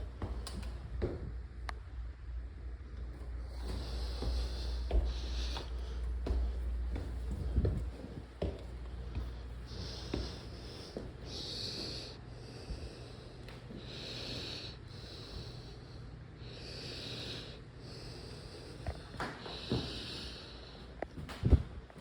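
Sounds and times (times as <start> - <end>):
person breathing heavily: 3.4 - 21.1.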